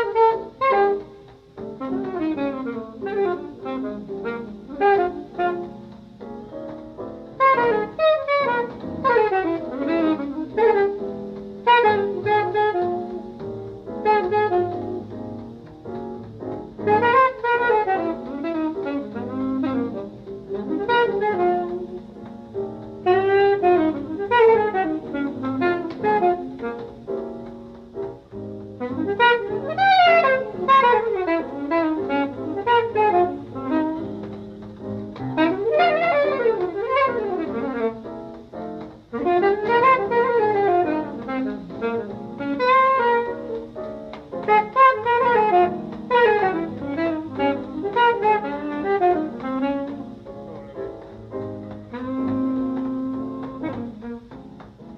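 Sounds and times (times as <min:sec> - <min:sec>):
saxophone melody: 0:00.0 - 0:54.9.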